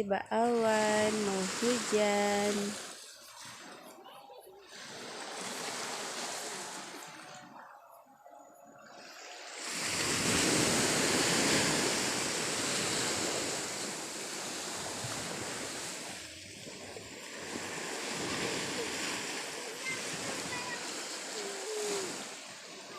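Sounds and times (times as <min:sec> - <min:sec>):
sea waves breaking on beach: 0:00.4 - 0:07.7, 0:08.8 - 0:22.9.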